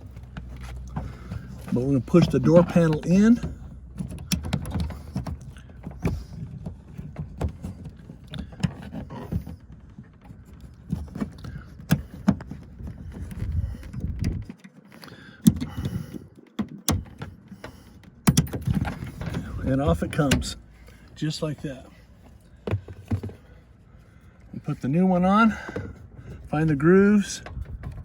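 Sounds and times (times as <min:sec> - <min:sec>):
low rumble of handling: 0:00.0 - 0:28.0.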